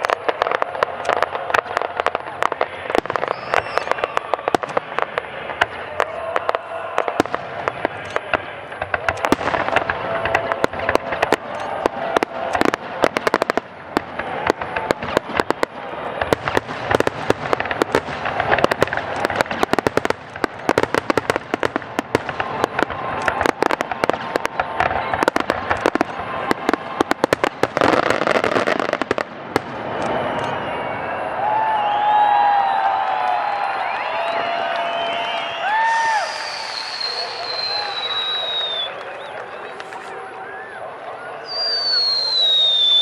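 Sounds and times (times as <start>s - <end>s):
fireworks bursts and crackling pops: 0.0s - 43.0s.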